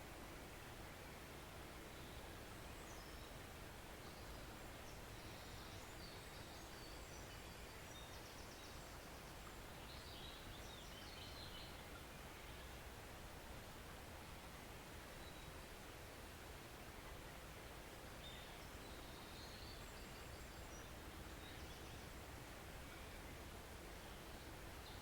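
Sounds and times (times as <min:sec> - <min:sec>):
forest stream rushing: 0:00.0 - 0:25.0.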